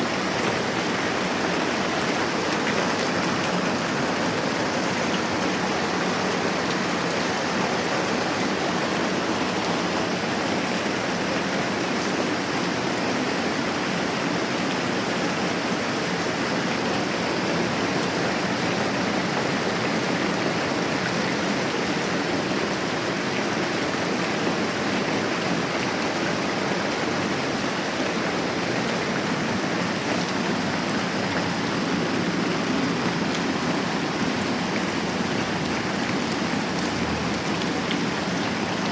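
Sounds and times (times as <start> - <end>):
moderate rain falling: 0.0 - 38.9.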